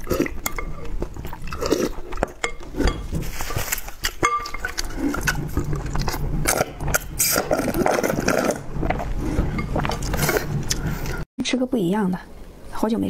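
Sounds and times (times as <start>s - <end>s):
slurping and swallowing: 0.0s - 11.2s.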